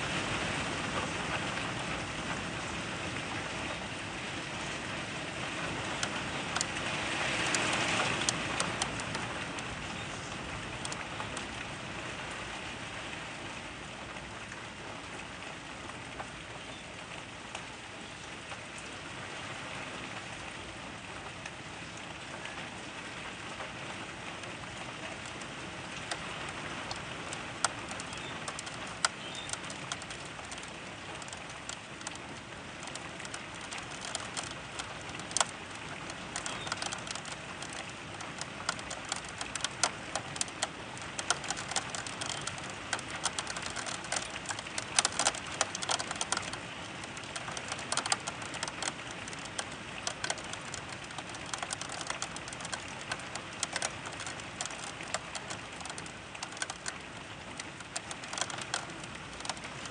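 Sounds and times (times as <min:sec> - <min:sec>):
raindrops tapping on window glass: 0:00.0 - 0:19.0, 0:23.4 - 0:59.9
rain hiss: 0:00.0 - 0:59.9.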